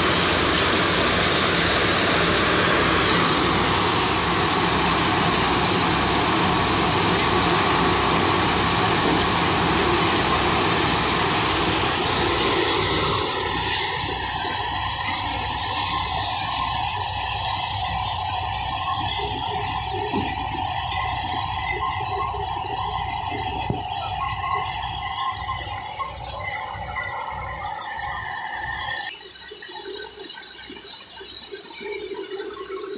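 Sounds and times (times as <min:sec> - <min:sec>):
maize sheller running: 0:00.0 - 0:29.1.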